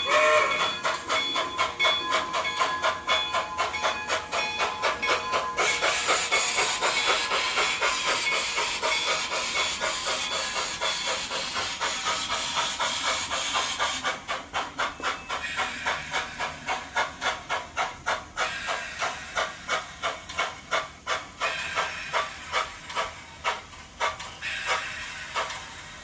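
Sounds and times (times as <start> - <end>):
steam locomotive exhaust chuffing: 0.0 - 26.0.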